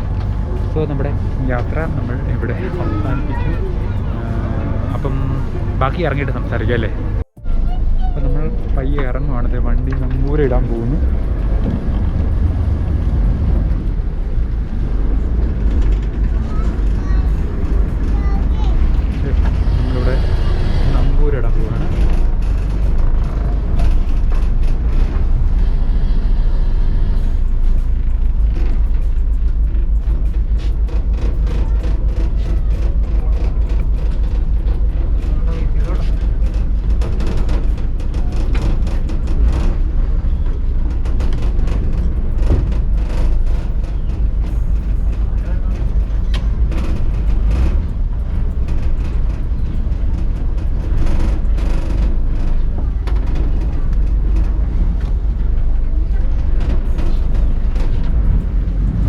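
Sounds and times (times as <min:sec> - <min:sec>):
boat engine rumbling: 0:00.0 - 0:59.0.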